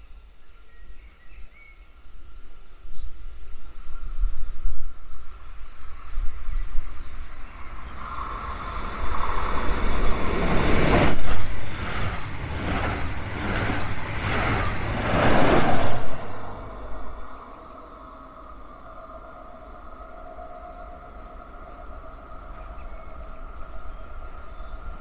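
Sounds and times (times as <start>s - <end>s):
train passing at speed: 3.7s - 25.0s.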